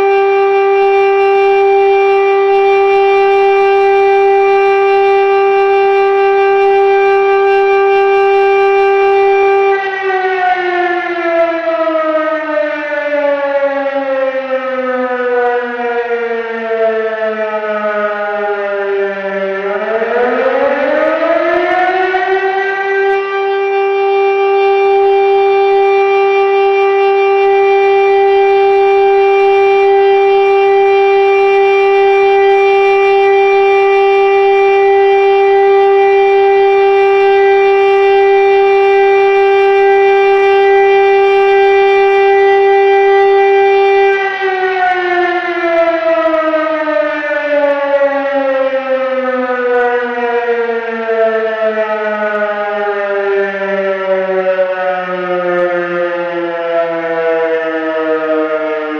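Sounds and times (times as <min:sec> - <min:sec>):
rotary siren wailing: 0:00.0 - 0:58.9.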